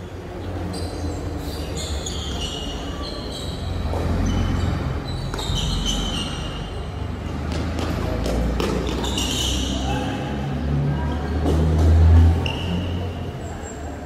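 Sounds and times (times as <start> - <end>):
sneakers squeaking on court: 0.0 - 10.3, 11.1 - 14.0.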